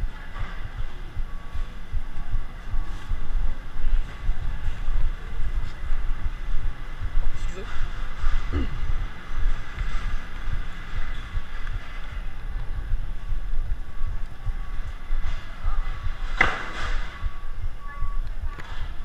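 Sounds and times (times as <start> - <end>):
faint voices: 0.0 - 19.0
low rumbling camera noise: 0.0 - 19.0.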